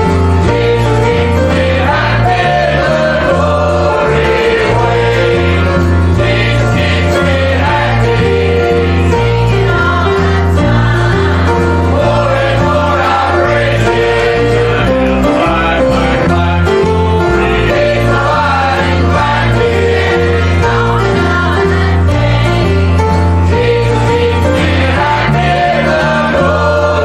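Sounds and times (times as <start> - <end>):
group of voices singing gospel: 0.0 - 27.0
instrumental accompaniment: 0.0 - 27.0.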